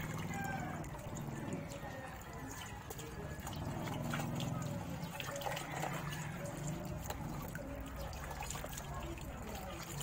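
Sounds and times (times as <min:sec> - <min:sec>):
water pouring and splashing: 0:00.0 - 0:10.0.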